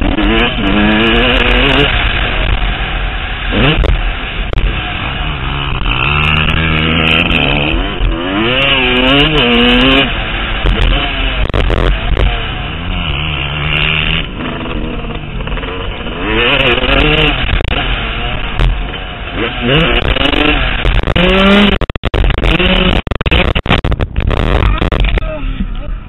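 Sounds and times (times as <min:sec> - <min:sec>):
motocross bike engine revving: 0:00.0 - 0:25.2.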